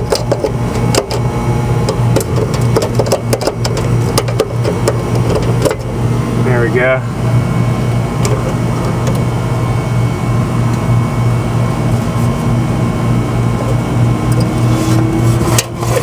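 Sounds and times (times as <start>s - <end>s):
pulsing machine hum: 0.0s - 16.0s.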